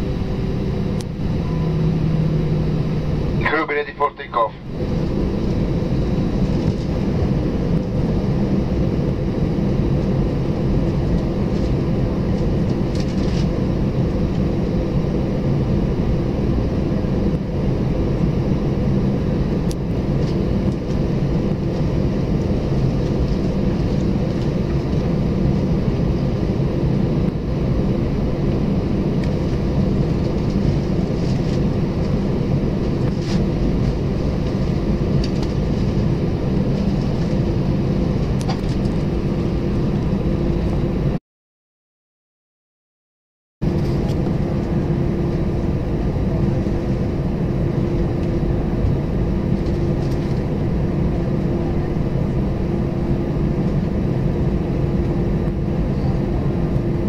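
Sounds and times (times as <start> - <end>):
aircraft cabin hum: 0.0 - 41.2, 43.6 - 57.0.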